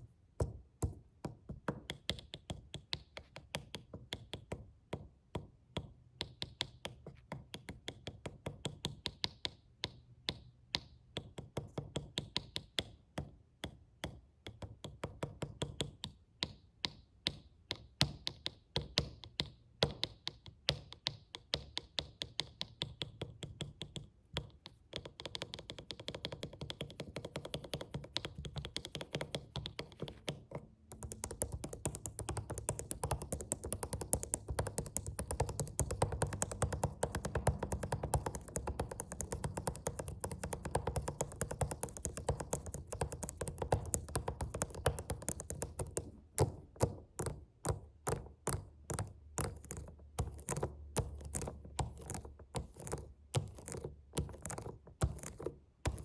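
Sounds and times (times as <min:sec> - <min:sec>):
fingers tapping on a suitcase: 0:00.4 - 0:56.0.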